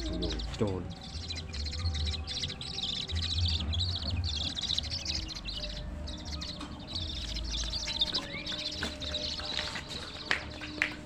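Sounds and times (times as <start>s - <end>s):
small birds twittering: 0.0s - 11.0s.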